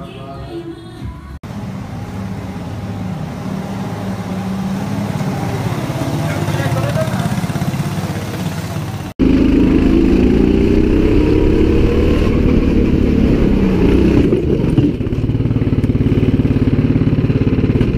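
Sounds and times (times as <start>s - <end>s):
racing kart engine: 1.4s - 17.9s.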